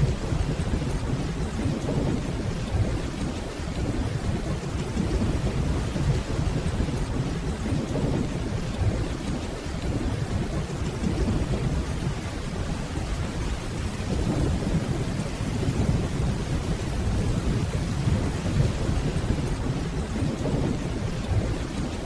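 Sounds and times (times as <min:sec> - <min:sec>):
rolling thunder: 0:00.0 - 0:22.0
steady rainfall: 0:00.0 - 0:22.0.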